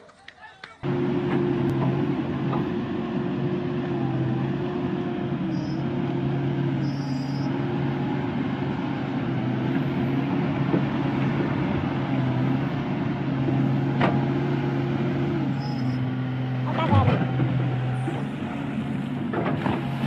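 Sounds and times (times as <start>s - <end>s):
excavator diesel engine running: 0.8s - 20.0s.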